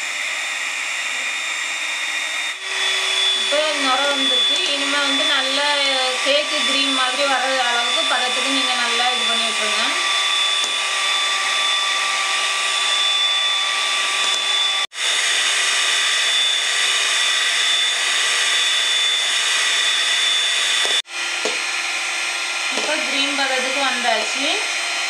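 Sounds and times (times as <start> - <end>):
electric hand mixer whipping: 0.0 - 25.0.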